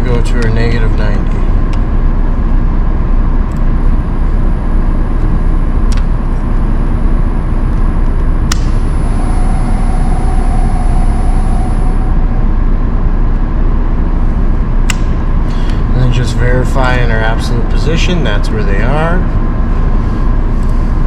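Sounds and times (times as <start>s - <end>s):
faint whine: 0.0s - 21.0s
loud machine rumble: 0.0s - 21.0s.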